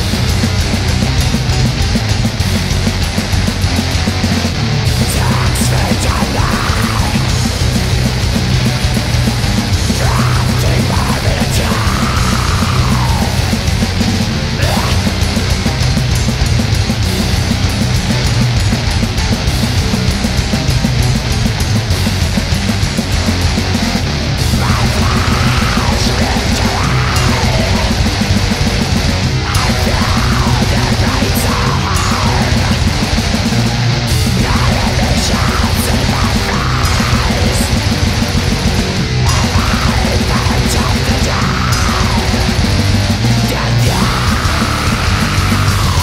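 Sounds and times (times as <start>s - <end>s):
heavy metal song: 0.0s - 46.0s.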